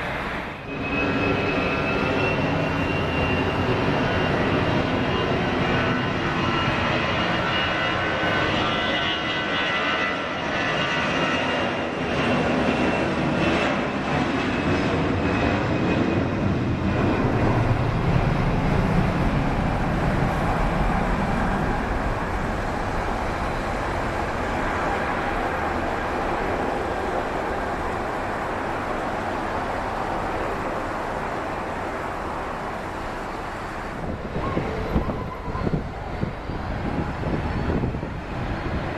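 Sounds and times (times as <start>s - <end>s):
jet engine low rumble: 0.0s - 38.9s
jet engine whine: 0.0s - 38.9s.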